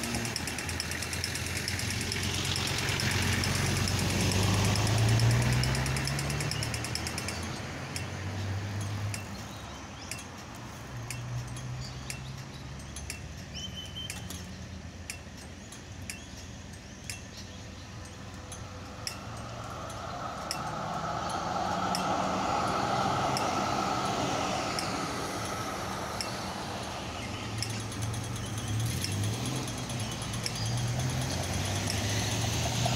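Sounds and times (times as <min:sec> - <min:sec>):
faint sharp ticks: 0:00.0 - 0:08.2, 0:08.8 - 0:32.9
tram passing: 0:00.0 - 0:13.2, 0:17.2 - 0:32.9
cars passing: 0:00.0 - 0:32.9.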